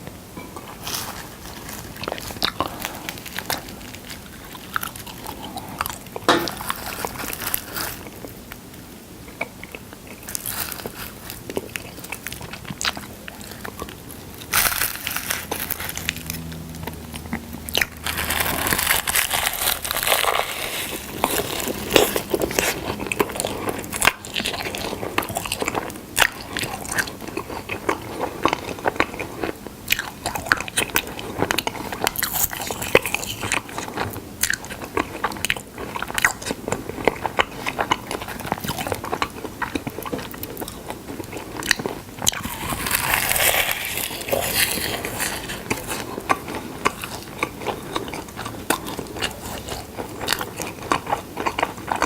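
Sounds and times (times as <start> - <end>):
wet chewing and crunching: 0.0 - 52.0.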